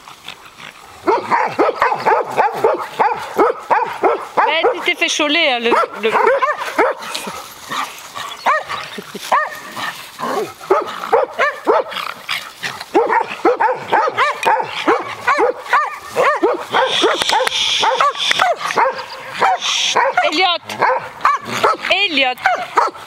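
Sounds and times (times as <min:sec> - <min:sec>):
dog barking excitedly: 0:01.0 - 0:12.2, 0:12.8 - 0:23.0.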